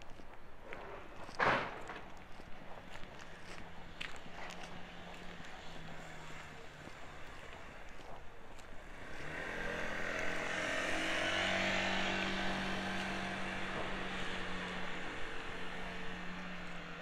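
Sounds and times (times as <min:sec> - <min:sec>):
vehicle passing by: 0:02.3 - 0:08.0, 0:08.6 - 0:17.0.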